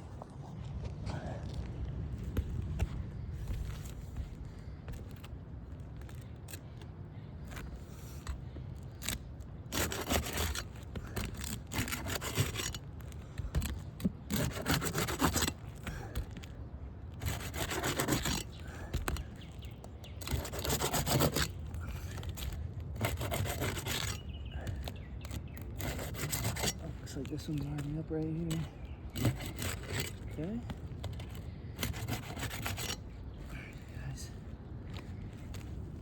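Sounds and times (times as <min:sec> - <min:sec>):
tool scraping under roof shingles: 0:02.1 - 0:36.0.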